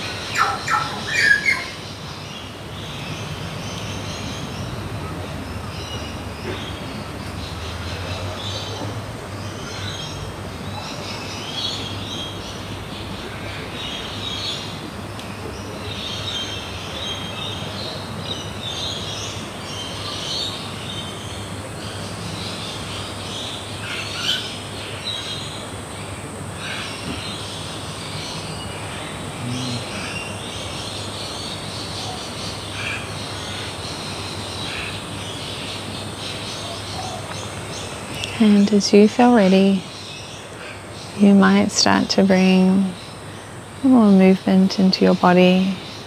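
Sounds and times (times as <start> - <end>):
birds chirping and calling: 0.0 - 46.0
steady low hum: 1.7 - 46.0.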